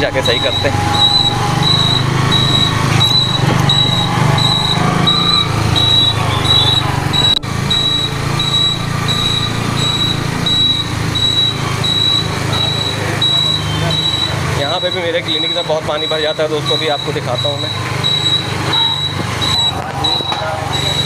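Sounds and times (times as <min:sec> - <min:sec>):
motorcycle engine running: 0:00.0 - 0:21.0
high electronic beep: 0:00.2 - 0:21.0.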